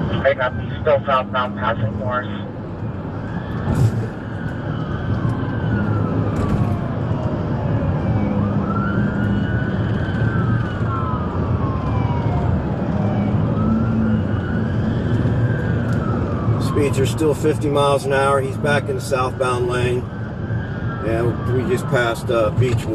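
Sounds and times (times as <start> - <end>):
police siren wailing: 0.0 - 22.9
road and engine noise: 0.0 - 22.9.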